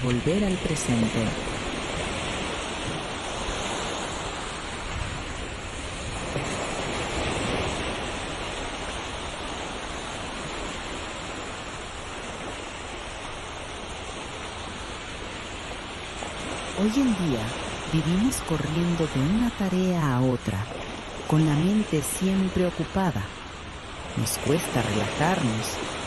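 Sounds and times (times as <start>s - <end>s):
ocean waves breaking on shore: 0.0s - 26.0s.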